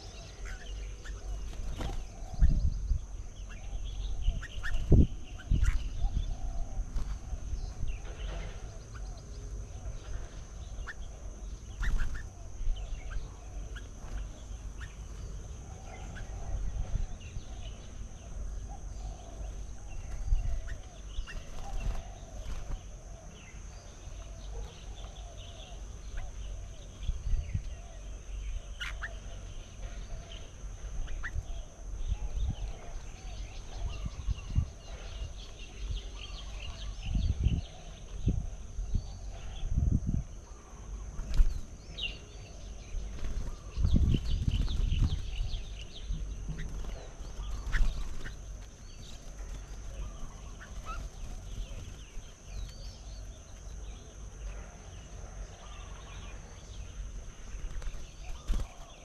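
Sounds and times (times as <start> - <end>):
birds chattering and calling: 0.0 - 59.0.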